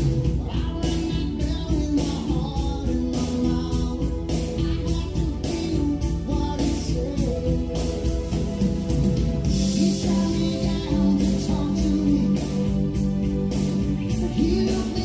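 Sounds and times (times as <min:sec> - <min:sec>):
music through loudspeakers: 0:00.0 - 0:15.0
song with singing and guitar: 0:00.0 - 0:15.0.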